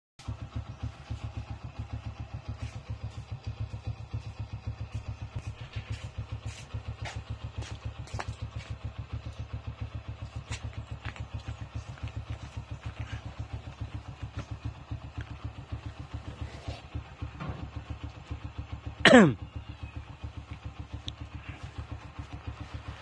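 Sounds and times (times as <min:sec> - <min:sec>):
motorcycle engine idling: 0:00.2 - 0:23.0.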